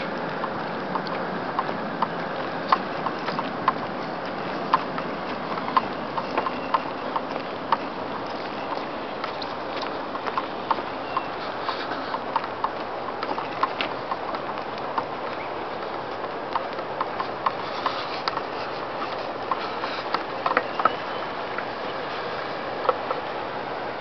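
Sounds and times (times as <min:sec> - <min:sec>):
footsteps clicking on wooden deck: 0:00.0 - 0:23.5.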